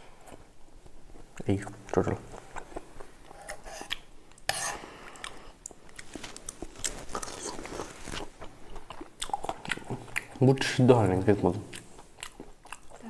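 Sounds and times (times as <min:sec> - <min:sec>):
chewing and crunching food: 0:02.0 - 0:13.0.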